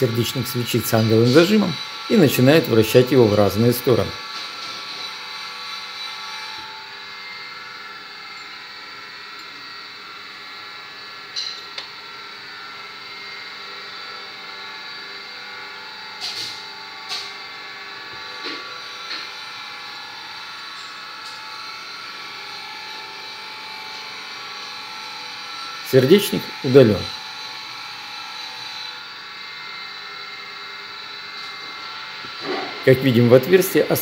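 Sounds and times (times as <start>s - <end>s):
workshop machinery hum: 0.0s - 34.0s.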